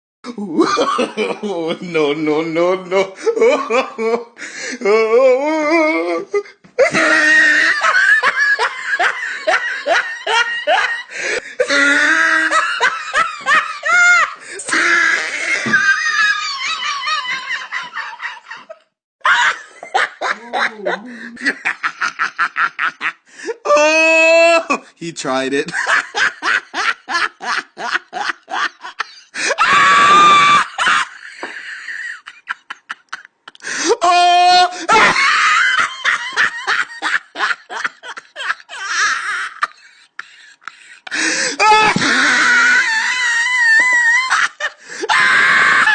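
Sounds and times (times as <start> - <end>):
person laughing hard: 0.3 - 2.0, 3.0 - 24.8, 25.7 - 45.9.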